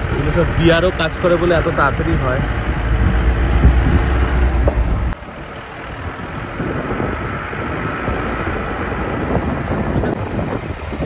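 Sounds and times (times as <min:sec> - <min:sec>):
moving car running noise: 0:00.0 - 0:11.0
wind buffeting microphone: 0:00.0 - 0:11.0.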